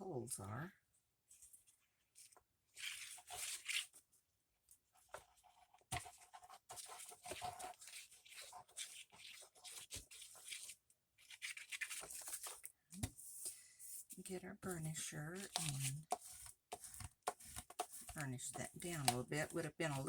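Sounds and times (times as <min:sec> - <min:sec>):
paper rustling and scraping: 0:01.3 - 0:04.1, 0:05.0 - 0:20.0.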